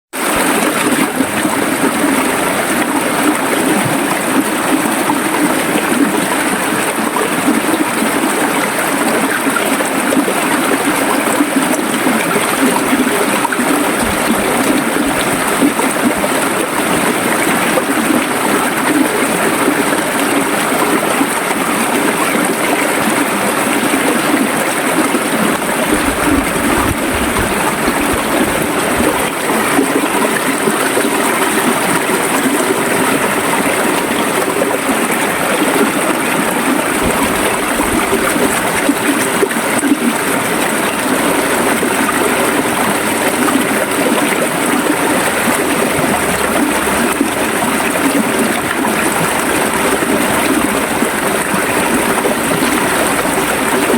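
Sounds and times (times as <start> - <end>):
stream water gurgling: 0.1 - 53.9.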